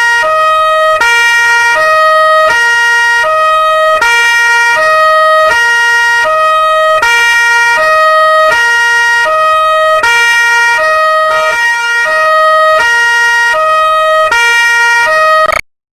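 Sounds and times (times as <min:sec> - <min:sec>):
two-tone police siren: 0:00.0 - 0:15.7.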